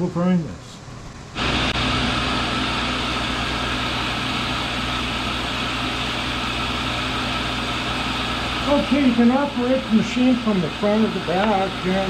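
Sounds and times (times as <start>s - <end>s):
grinder motor whirring: 1.4s - 12.0s.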